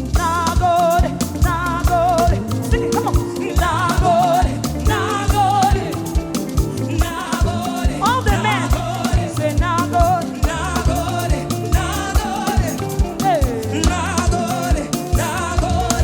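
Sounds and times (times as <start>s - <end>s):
live gospel band playing: 0.0s - 16.0s
voices singing: 0.0s - 16.0s.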